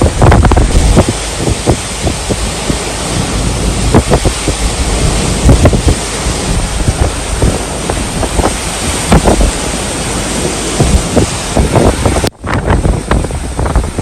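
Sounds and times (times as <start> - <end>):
wind buffeting microphone: 0.0 - 14.0
wind rushing: 0.0 - 14.0.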